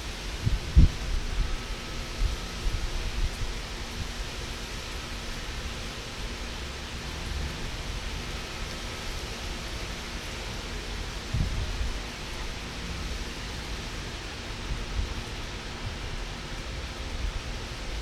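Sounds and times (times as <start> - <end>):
heavy rain hiss: 0.0 - 18.0
wind gusting on microphone: 0.0 - 18.0.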